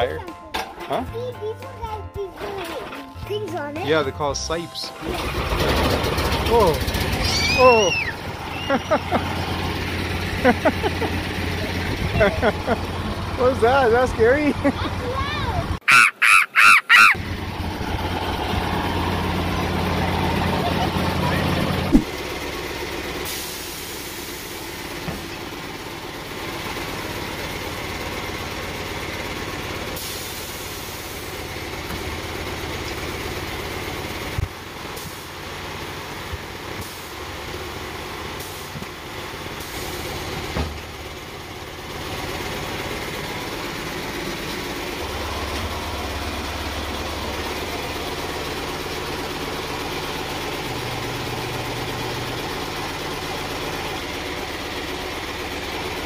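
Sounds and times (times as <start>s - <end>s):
engine idling: 0.0s - 16.0s, 16.9s - 56.0s.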